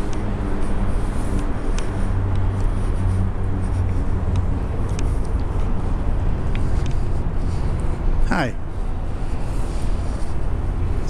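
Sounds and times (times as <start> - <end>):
engine running low hum: 0.0 - 11.0.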